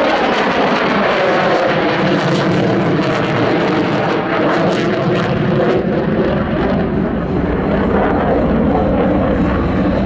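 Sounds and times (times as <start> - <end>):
loud fighter jet noise: 0.0 - 10.0.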